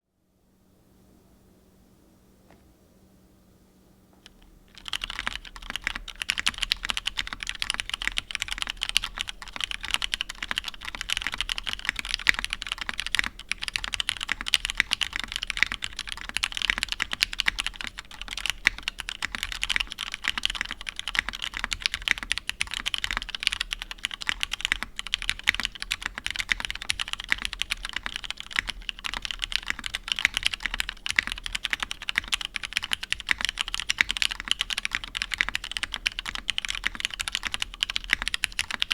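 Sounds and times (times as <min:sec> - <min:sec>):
mechanical keyboard typing: 0:04.2 - 0:38.9.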